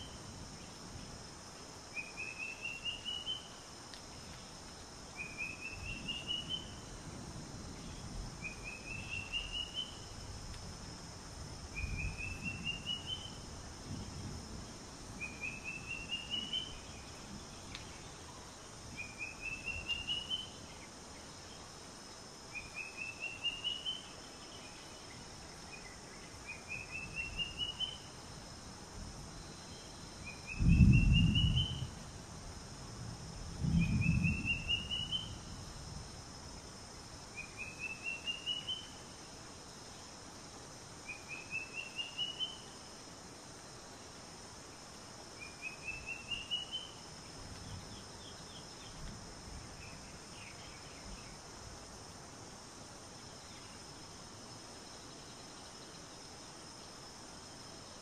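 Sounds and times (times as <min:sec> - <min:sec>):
insect hiss: 0:00.0 - 0:58.0.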